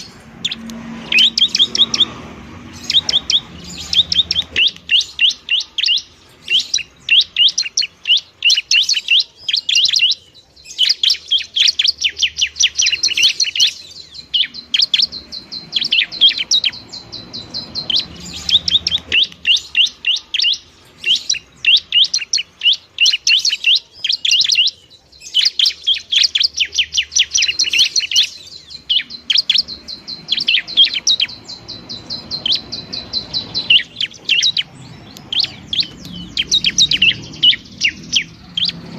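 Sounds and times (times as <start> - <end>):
bird chattering calls: 0.0 - 38.9.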